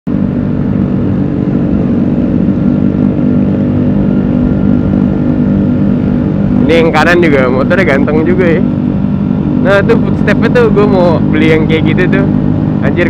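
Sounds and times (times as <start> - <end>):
scooter engine running: 0.1 - 13.0.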